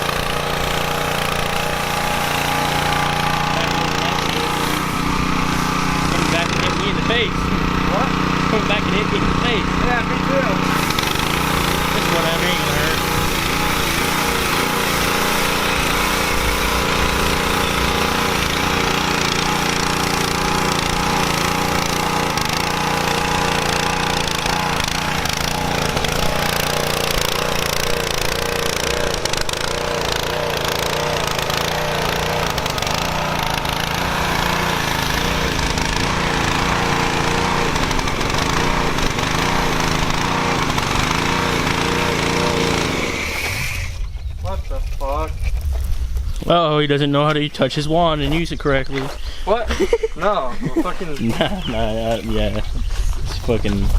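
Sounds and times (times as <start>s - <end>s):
water spray hissing: 0.0s - 9.6s, 10.2s - 44.0s
small gasoline engine running: 0.0s - 44.2s.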